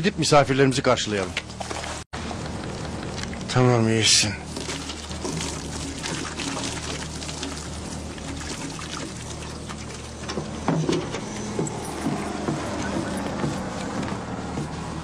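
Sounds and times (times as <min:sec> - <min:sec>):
low steady hum: 0:00.0 - 0:15.0
water splashing and trickling: 0:01.2 - 0:02.1, 0:02.7 - 0:15.0.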